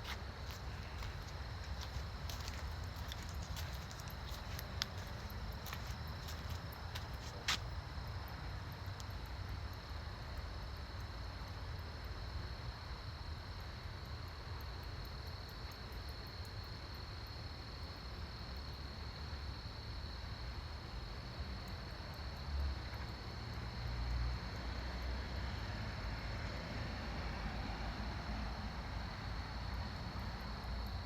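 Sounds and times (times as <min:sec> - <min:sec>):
outdoor hiss and rumble: 0:00.0 - 0:31.0.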